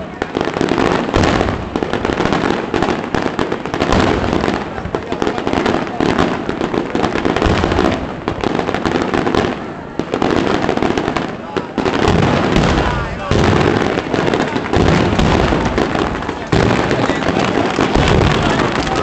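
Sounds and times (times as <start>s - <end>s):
firecrackers exploding overhead: 0.0s - 19.0s.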